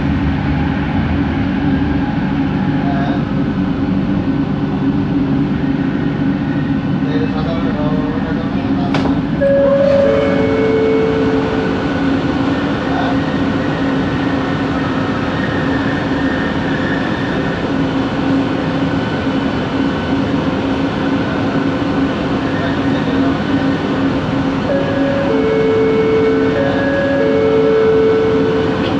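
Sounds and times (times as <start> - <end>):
train motor hum: 0.0 - 15.6, 17.5 - 28.9
train rumbling in motion: 0.0 - 28.9.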